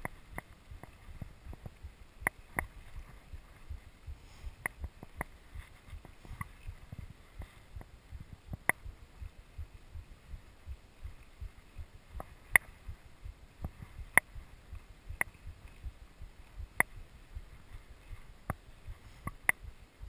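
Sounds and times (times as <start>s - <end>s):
low rumbling thumps: 0.7s - 17.7s.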